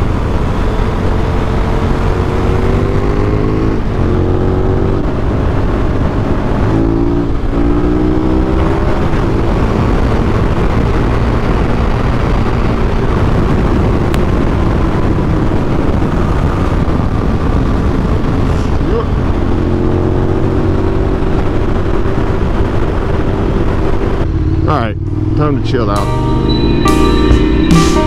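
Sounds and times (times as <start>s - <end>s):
motorcycle engine accelerating: 0.0s - 28.0s
wind and road noise: 0.0s - 28.0s.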